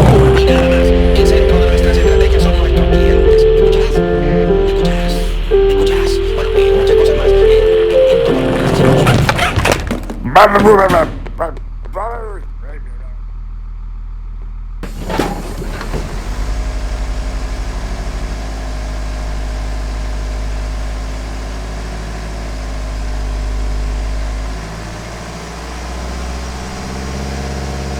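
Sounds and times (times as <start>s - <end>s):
car engine cranking and starting: 0.0s - 27.9s.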